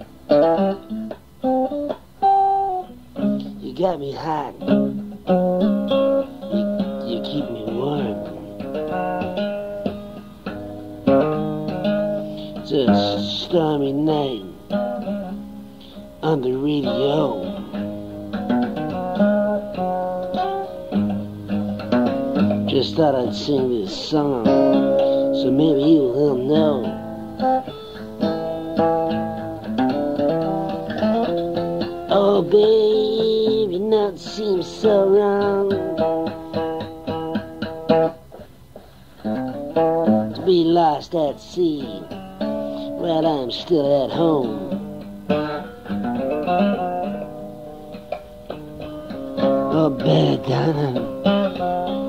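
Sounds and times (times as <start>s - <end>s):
guitar playing ballad: 0.0s - 52.0s.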